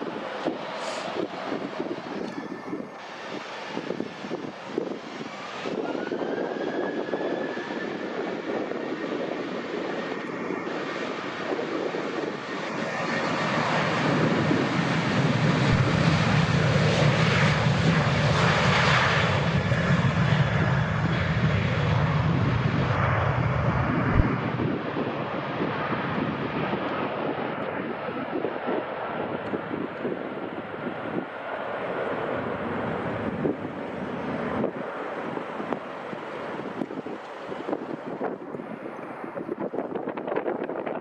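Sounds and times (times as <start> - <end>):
jet engines at takeoff power: 0.0 - 41.0.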